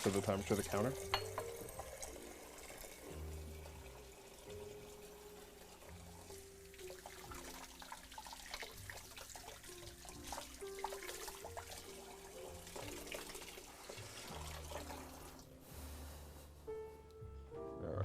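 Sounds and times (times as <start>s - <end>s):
water splashing in sink: 0.0s - 15.5s.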